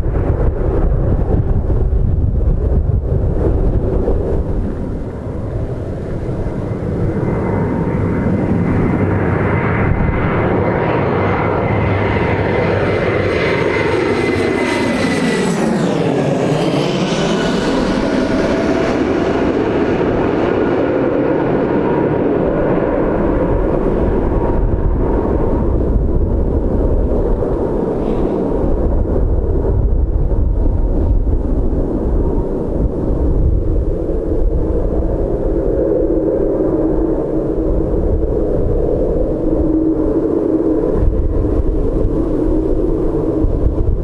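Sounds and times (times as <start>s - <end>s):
jet airliner roaring overhead: 0.0s - 44.0s
whining jet engine tone: 0.0s - 44.0s.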